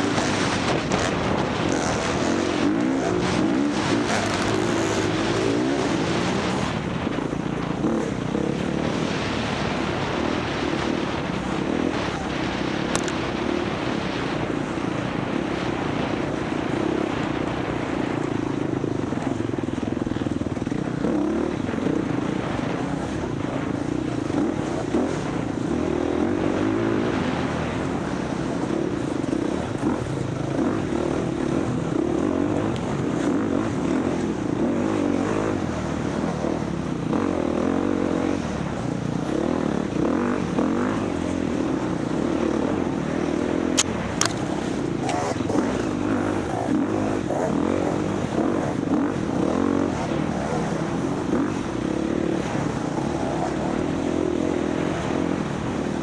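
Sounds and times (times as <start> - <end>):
dirt bike engine racing: 0.0 - 56.0.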